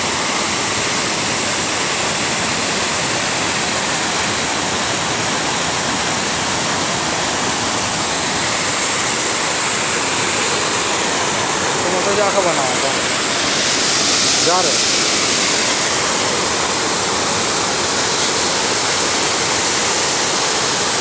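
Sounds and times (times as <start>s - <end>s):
waterfall crashing into gorge: 0.0s - 21.0s.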